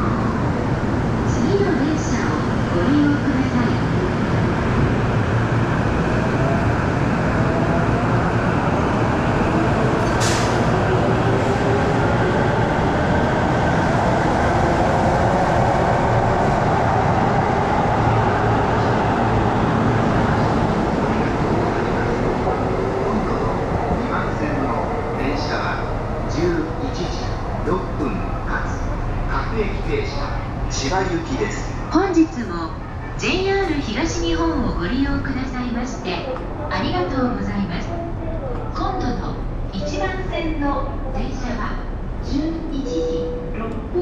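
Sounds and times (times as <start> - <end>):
electric train rumbling: 0.0 - 44.0.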